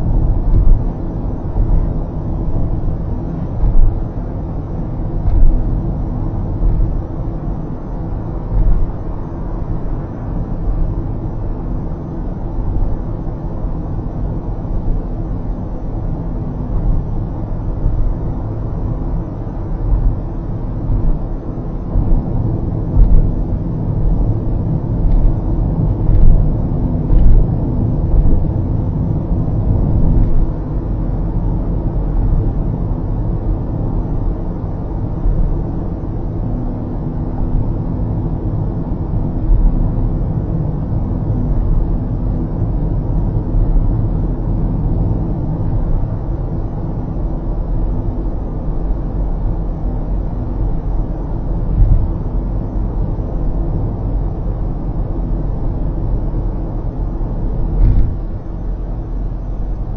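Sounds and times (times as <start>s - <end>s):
tyre and road noise inside car: 0.0s - 59.9s.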